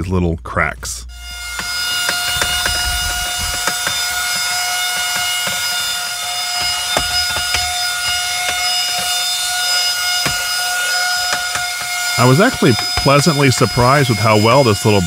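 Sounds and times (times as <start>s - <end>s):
car vacuum whine and air hiss: 1.2s - 15.0s.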